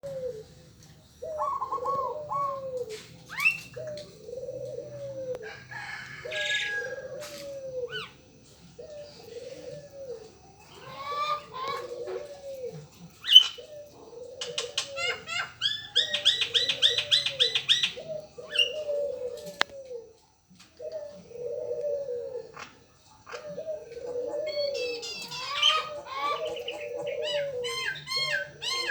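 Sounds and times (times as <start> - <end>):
birds chirping: 0.0 - 20.1, 20.8 - 28.9
doves cooing: 0.0 - 28.9.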